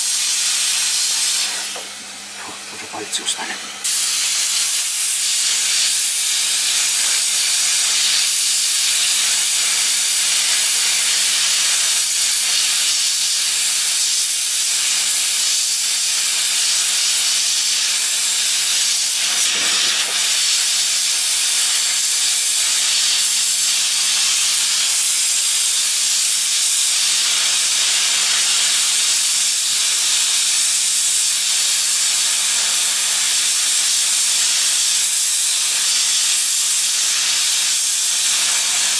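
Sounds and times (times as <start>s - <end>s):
hot air gun hissing: 0.0s - 38.9s.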